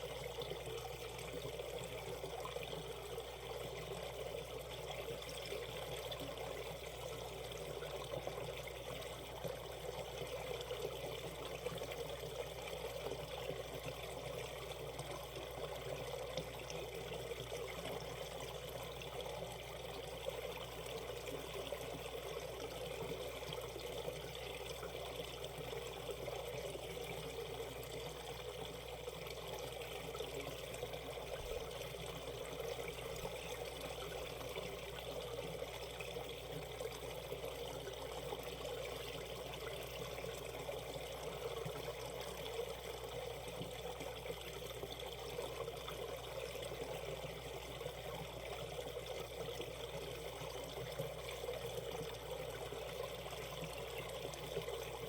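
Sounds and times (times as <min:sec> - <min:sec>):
stream flowing water: 0:00.0 - 0:55.0.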